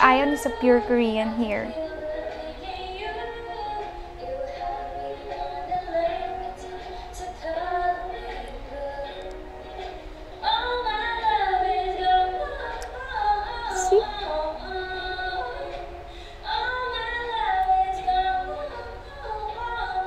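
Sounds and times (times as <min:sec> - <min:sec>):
woman singing: 0:00.0 - 0:20.0.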